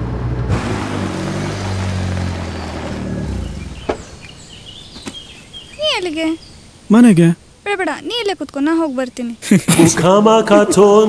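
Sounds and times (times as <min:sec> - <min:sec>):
car engine and road noise: 0:00.0 - 0:09.3.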